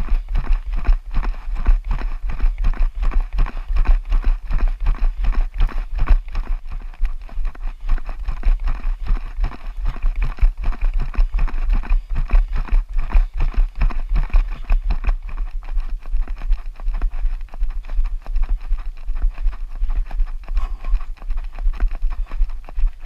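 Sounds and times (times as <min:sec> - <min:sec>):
running footsteps pounding: 0:00.0 - 0:23.0
steady low rumble: 0:00.0 - 0:23.0.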